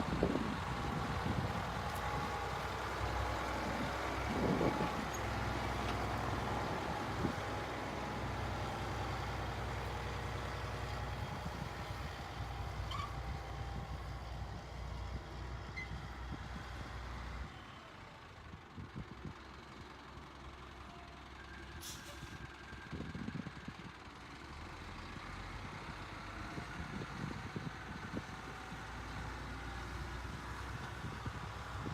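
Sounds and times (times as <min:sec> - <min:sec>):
diesel truck engine rumbling: 0:00.0 - 0:31.9.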